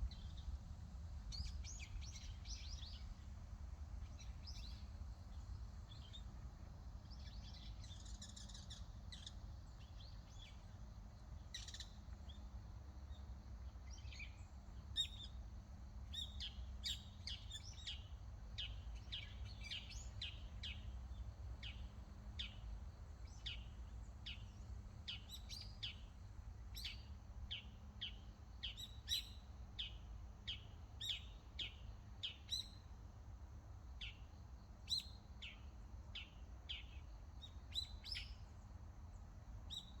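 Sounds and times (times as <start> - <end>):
small birds chirping: 1.2 - 3.4, 4.0 - 15.4, 16.0 - 32.9, 34.0 - 40.0.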